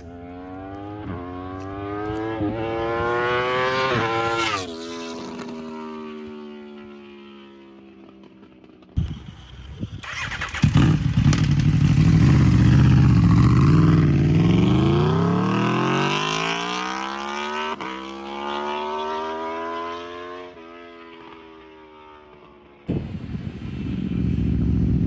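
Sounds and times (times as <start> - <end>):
motorcycle accelerating past: 0.0 - 22.8.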